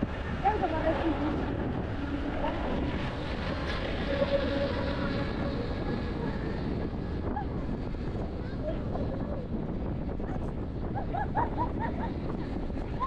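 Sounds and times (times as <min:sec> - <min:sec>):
road noise: 0:00.0 - 0:10.8
wind rush on microphone: 0:00.0 - 0:13.0.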